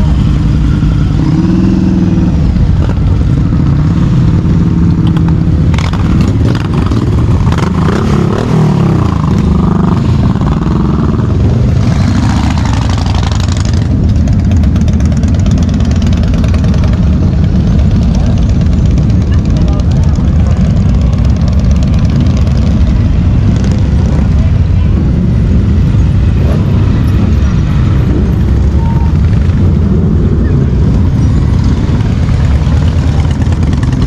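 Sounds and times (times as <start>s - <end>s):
motorcycle engines revving: 0.0s - 34.0s.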